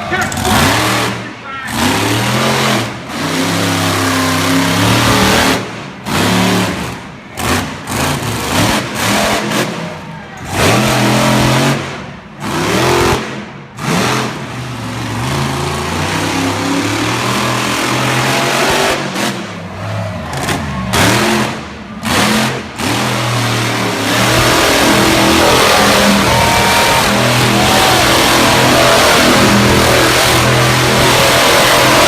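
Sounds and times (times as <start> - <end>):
truck engines revving hard: 0.0 - 32.0.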